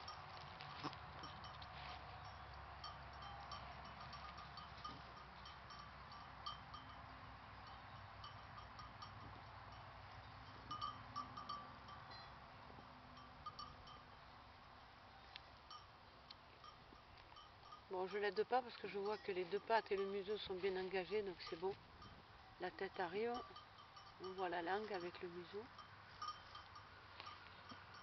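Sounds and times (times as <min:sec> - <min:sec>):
small bells tinkling: 0:00.0 - 0:00.5, 0:01.1 - 0:14.3, 0:16.6 - 0:28.0.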